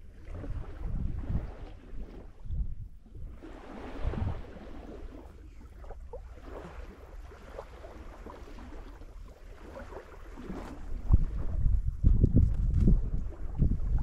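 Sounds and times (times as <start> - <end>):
wind on microphone: 0.0 - 7.6, 8.2 - 14.0.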